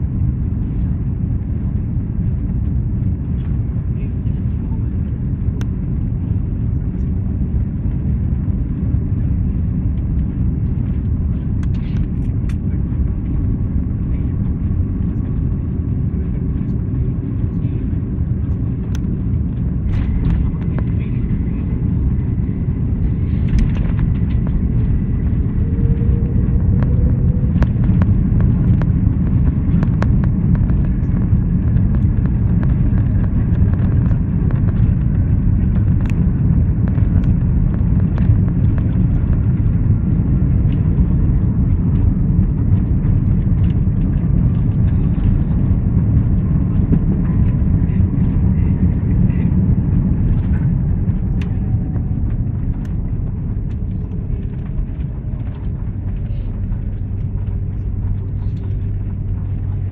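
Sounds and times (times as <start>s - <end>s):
jet airliner rumbling on runway: 0.0s - 59.9s.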